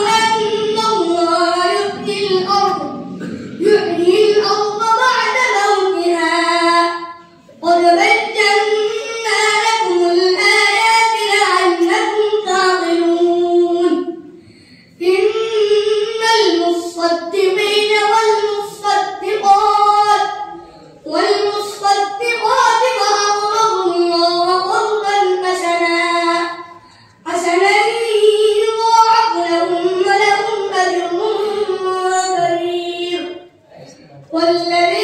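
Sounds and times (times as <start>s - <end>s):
boy chanting recitation: 0.0s - 35.0s.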